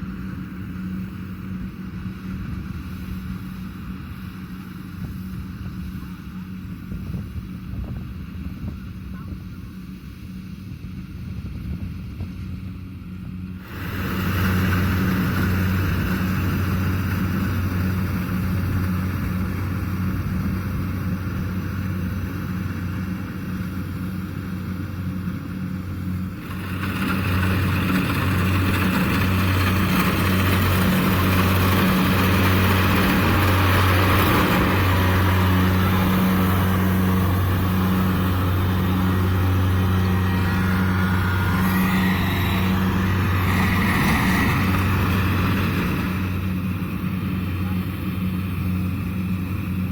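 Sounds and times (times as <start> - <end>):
harvester engine and machinery: 0.0 - 49.9.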